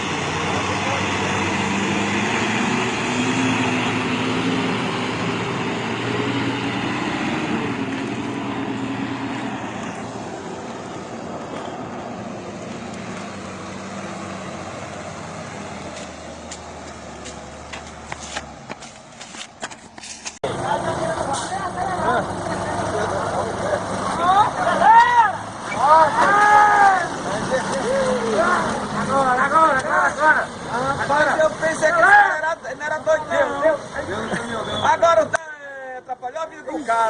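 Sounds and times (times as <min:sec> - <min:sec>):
heavy truck engine running: 0:00.0 - 0:19.2, 0:19.9 - 0:31.7.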